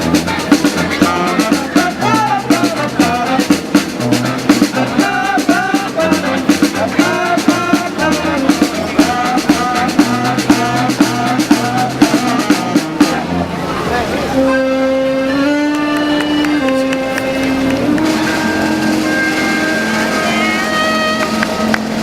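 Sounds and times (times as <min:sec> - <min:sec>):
drum kit beat: 0:00.0 - 0:13.5, 0:15.6 - 0:22.0
street band playing funk: 0:00.0 - 0:22.0.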